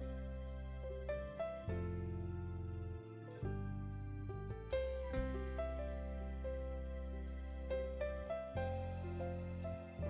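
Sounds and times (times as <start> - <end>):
soft piano background music: 0.0 - 10.0.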